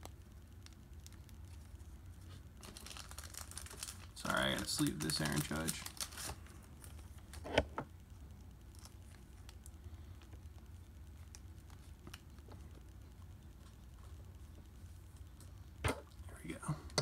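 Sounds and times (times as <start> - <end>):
light ticks and crinkles: 0.0 - 17.0.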